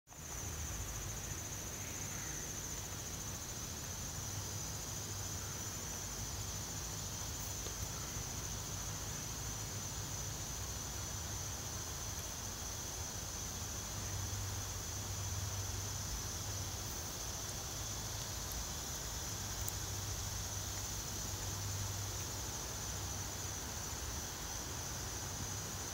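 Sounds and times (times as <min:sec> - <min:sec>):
insects trilling: 0:00.1 - 0:25.9.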